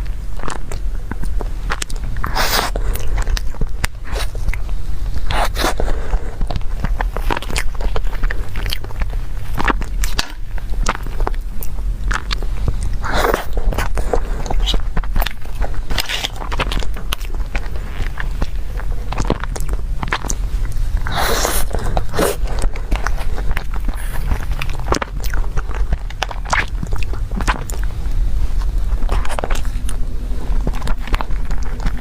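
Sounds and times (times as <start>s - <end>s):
biting and chewing: 0.0s - 32.0s
steady low hum: 0.0s - 32.0s
wet mouth clicks: 0.4s - 32.0s.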